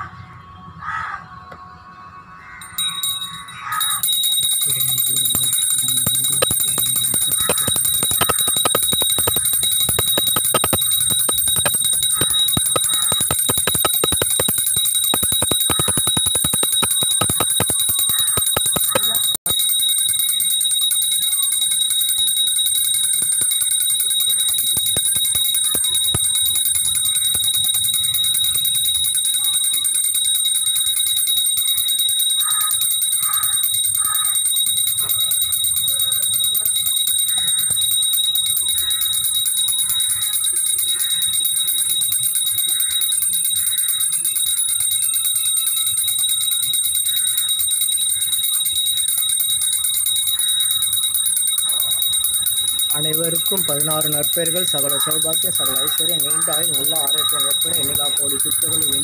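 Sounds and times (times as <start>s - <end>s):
bell ringing rapidly: 2.6s - 59.0s.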